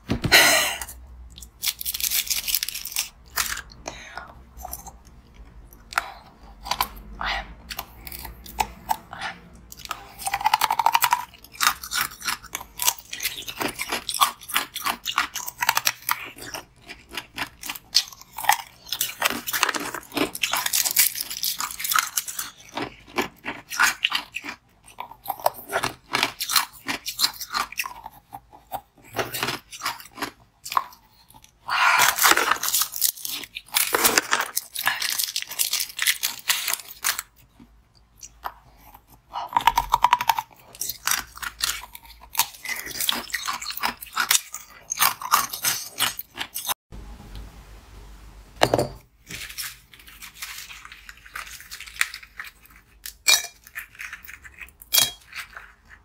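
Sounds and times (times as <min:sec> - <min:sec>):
crunching and chewing ice: 0:01.3 - 0:46.8, 0:49.2 - 0:56.0.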